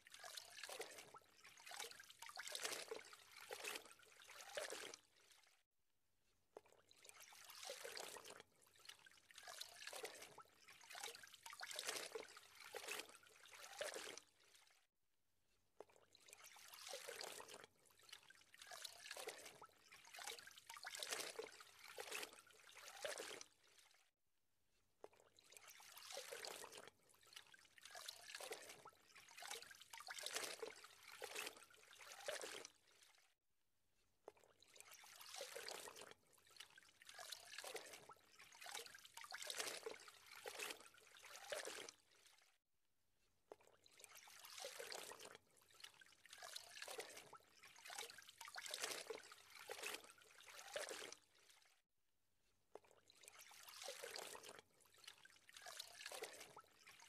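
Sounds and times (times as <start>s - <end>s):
water trickling and gurgling: 0.0s - 5.7s, 6.5s - 15.0s, 15.7s - 24.2s, 25.0s - 33.4s, 34.2s - 42.6s, 43.4s - 51.9s, 52.7s - 57.0s.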